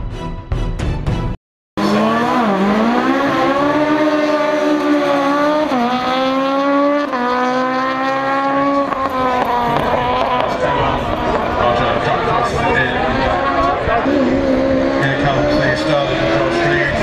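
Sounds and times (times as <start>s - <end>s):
rally car engine at high revs: 1.8s - 17.0s.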